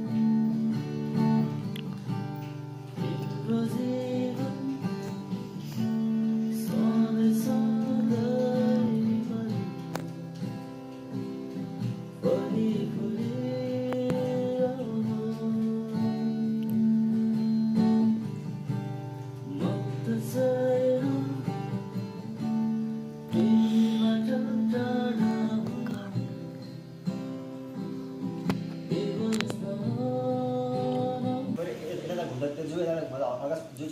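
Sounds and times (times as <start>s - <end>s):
strummed acoustic guitar: 0.0s - 32.9s.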